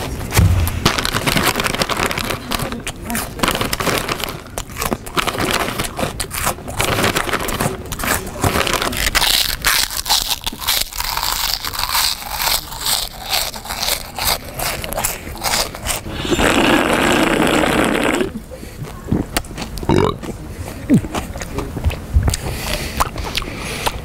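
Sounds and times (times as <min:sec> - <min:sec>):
person eating loudly: 0:00.0 - 0:24.0.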